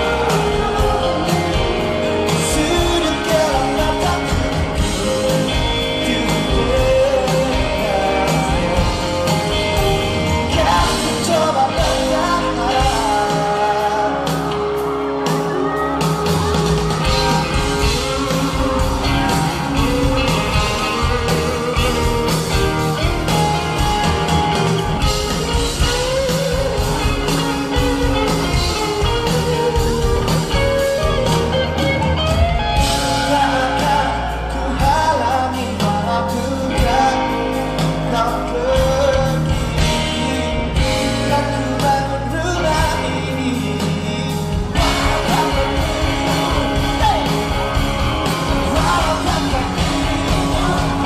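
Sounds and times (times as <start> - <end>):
man singing: 0.0 - 31.9, 32.6 - 51.0
pop-rock band playing live: 0.0 - 51.0.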